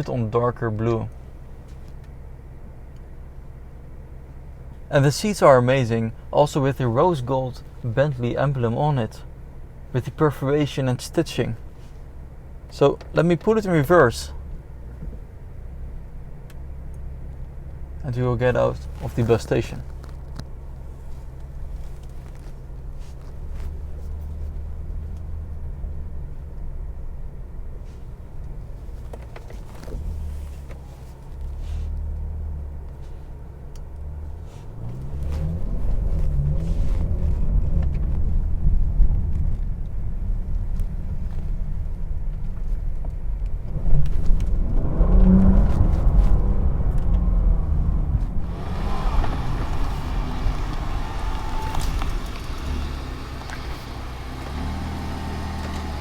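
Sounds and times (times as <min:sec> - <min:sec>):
car engine accelerating: 0:11.1 - 0:56.0.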